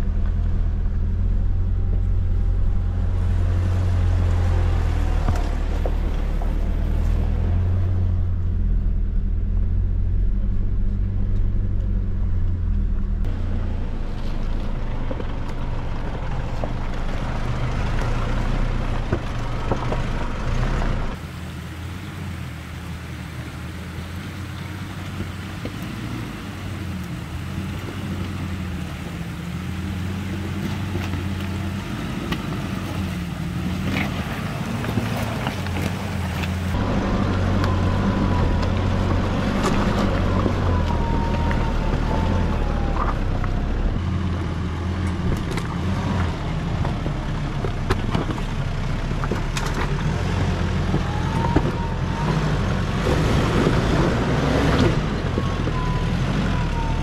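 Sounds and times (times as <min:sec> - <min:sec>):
engine running at low revs: 0:00.0 - 0:57.0.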